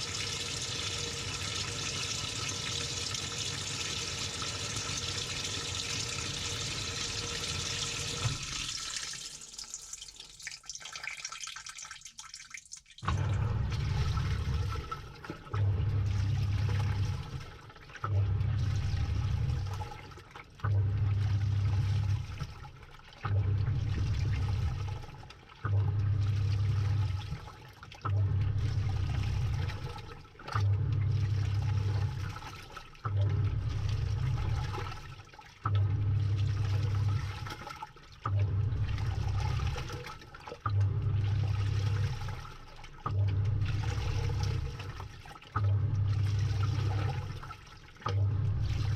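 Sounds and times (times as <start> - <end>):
washing machine motor churning: 0.0 - 10.9, 13.0 - 48.9
water pouring into tub: 0.0 - 48.9.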